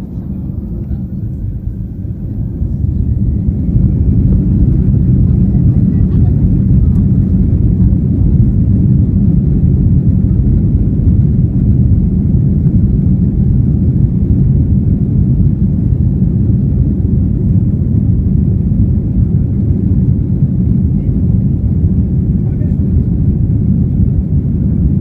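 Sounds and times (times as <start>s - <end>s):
airplane cabin rumble taxiing: 0.0s - 25.0s.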